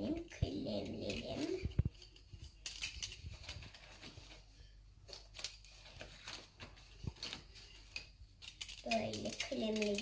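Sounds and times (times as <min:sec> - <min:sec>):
pencils clicking and rustling: 0:00.0 - 0:10.0.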